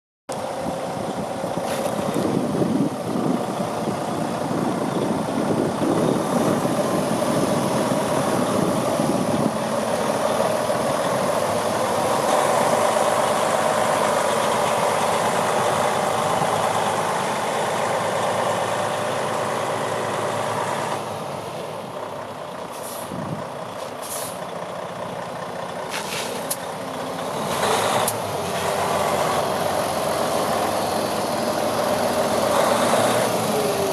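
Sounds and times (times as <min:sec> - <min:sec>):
heavy vehicle rumbling: 0:00.3 - 0:33.9.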